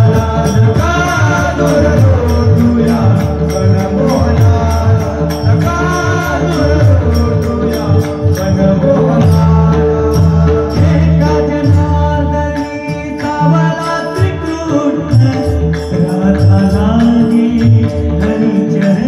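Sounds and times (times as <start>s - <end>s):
hand cymbals clashing: 0.0s - 19.0s
man singing: 0.0s - 19.0s.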